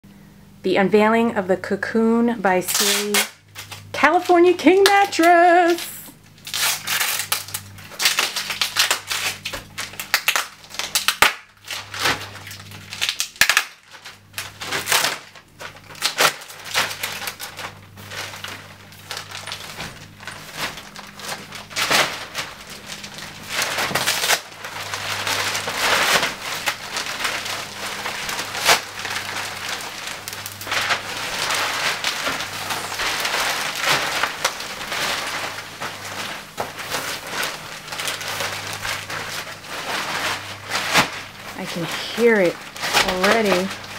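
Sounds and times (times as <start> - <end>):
plastic wrapping crinkling: 2.6 - 43.9.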